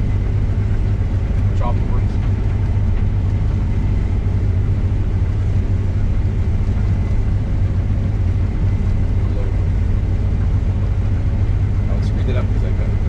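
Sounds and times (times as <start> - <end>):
combine harvester engine hum: 0.0 - 13.0.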